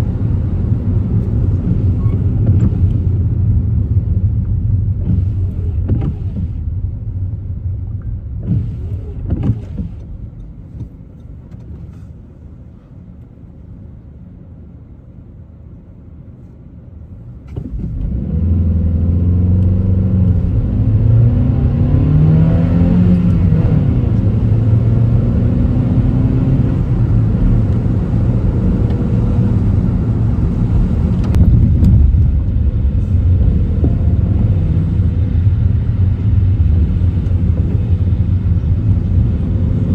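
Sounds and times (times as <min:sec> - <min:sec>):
car engine accelerating: 0:00.0 - 0:12.0, 0:17.4 - 0:39.9
road noise: 0:00.0 - 0:39.9.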